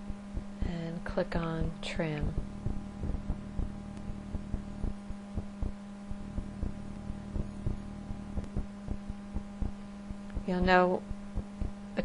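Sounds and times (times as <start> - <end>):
electrical hum: 0.0 - 12.0
soft low thumps: 0.0 - 12.0.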